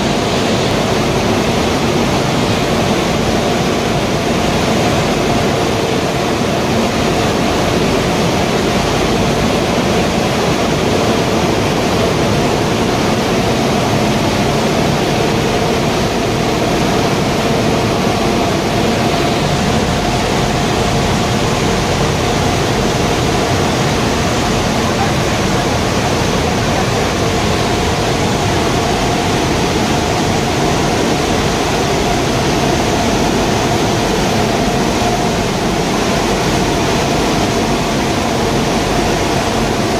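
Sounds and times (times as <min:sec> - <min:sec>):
mid-pitched machine hum: 0:00.0 - 0:39.9.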